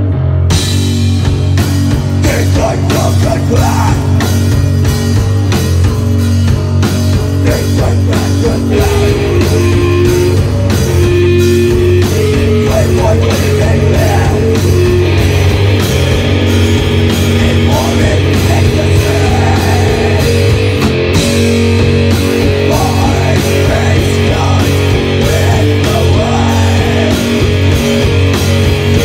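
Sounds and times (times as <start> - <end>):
bass: 0.0 - 29.0
distorted electric guitars: 0.0 - 29.0
drum hits: 0.5 - 29.0.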